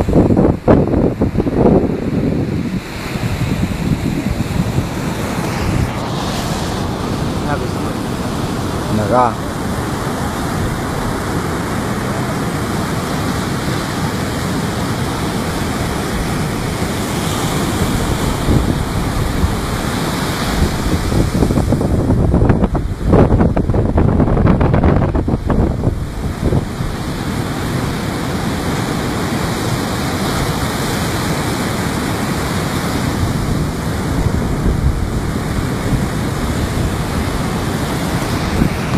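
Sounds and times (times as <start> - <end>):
surf breaking on beach: 0.0 - 38.9
wind rumbling on microphone: 0.0 - 38.9.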